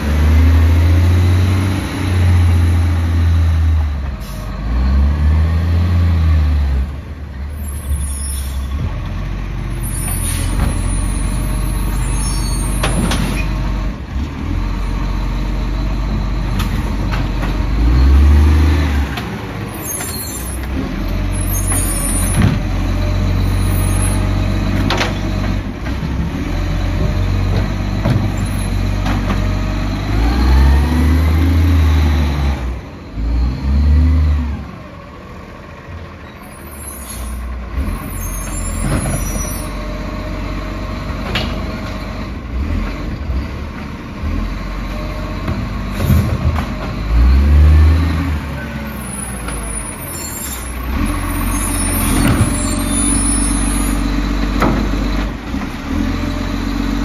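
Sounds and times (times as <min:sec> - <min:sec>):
garbage truck engine revving: 0:00.0 - 0:07.0, 0:08.5 - 0:57.0.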